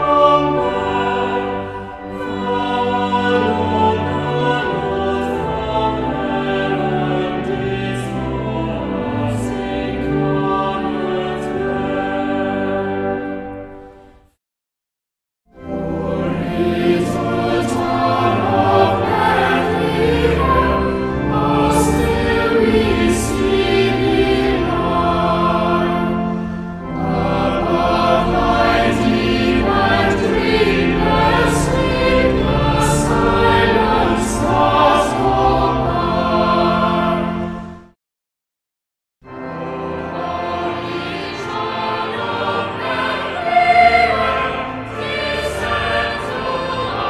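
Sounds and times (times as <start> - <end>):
choir singing: 0.0 - 14.2, 15.6 - 38.0, 39.3 - 47.0.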